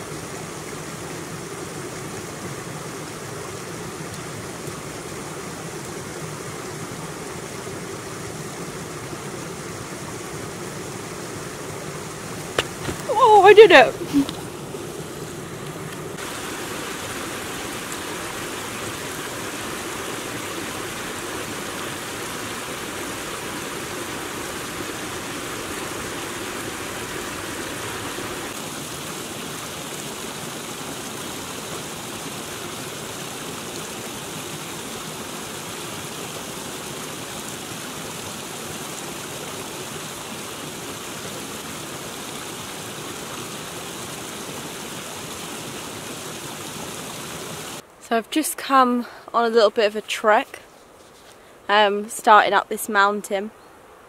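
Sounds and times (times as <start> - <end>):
stream rushing over rocks: 0.0 - 48.0.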